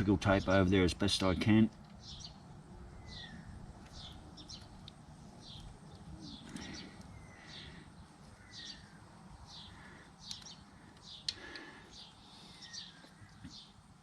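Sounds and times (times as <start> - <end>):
bird chirping: 0.0 - 13.9.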